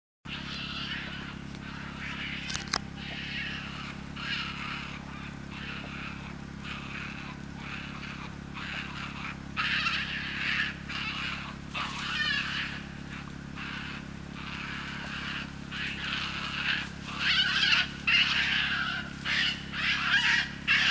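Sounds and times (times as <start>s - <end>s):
badgers calling: 0.3s - 20.9s
steady low hum: 0.3s - 20.9s.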